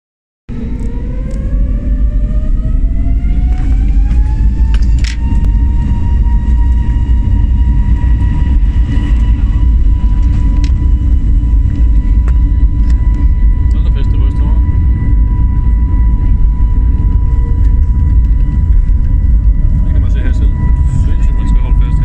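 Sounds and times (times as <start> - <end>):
heavy low rumble: 0.5 - 22.0
jet engine whine: 0.5 - 22.0.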